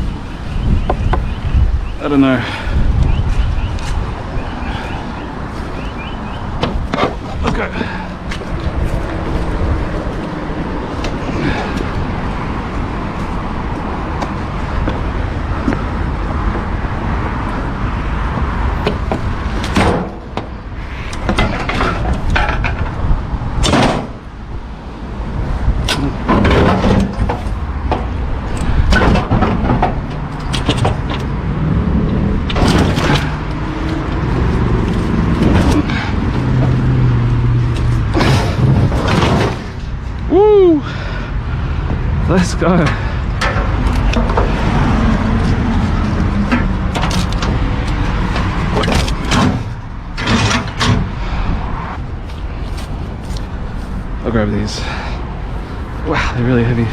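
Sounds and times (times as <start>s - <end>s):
steady low rumble: 0.0s - 56.9s.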